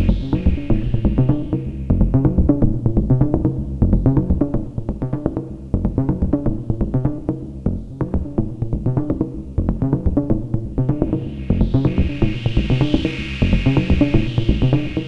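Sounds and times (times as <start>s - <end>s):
deep synth bass: 0.0s - 15.0s.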